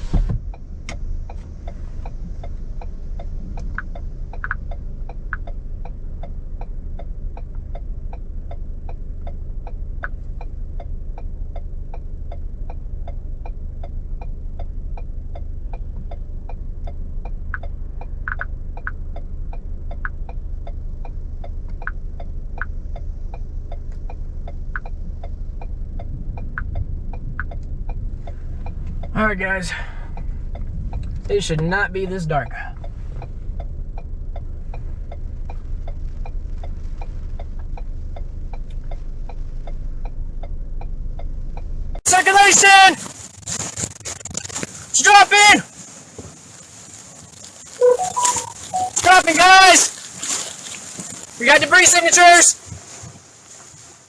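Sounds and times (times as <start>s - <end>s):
vehicle interior rumble: 0.0s - 54.0s.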